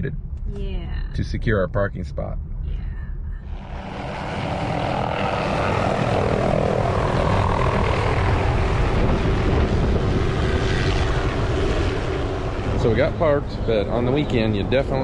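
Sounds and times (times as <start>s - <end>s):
helicopter rotor chop: 0.0s - 15.0s
helicopter engine whine: 2.3s - 15.0s.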